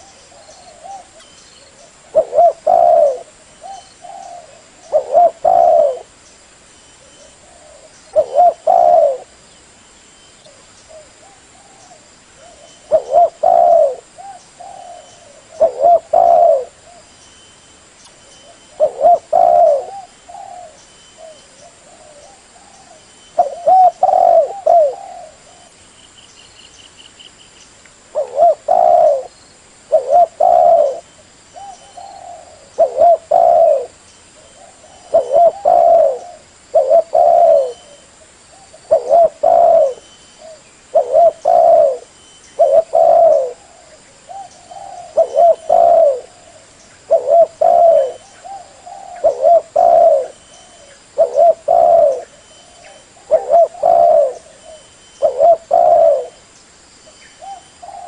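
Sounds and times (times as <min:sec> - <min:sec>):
dove cooing: 0:00.0 - 0:06.2, 0:07.0 - 0:09.4, 0:10.5 - 0:17.1, 0:18.4 - 0:25.8, 0:28.1 - 0:29.3, 0:29.9 - 0:56.4, 0:57.4 - 0:58.0.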